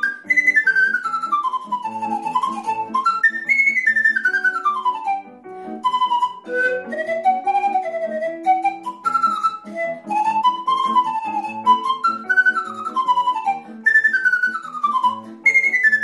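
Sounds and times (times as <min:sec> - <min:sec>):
pan flute melody: 0:00.0 - 0:16.0.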